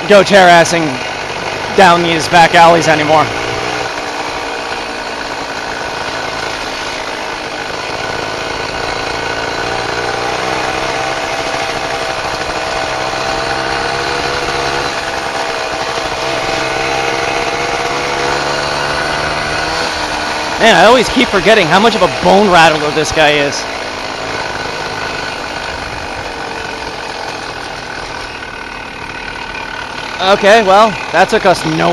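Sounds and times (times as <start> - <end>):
moped two-stroke engine running: 0.0 - 31.9.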